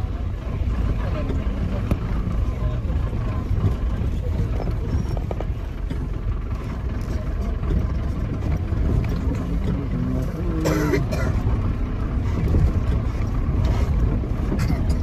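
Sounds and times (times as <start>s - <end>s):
vehicle driving rumble: 0.0s - 15.0s.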